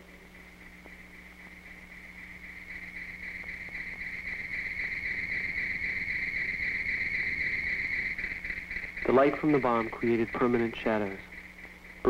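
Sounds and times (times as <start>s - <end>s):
faint low hum: 0.0s - 12.0s
high-pitched insect chirring: 0.0s - 12.0s.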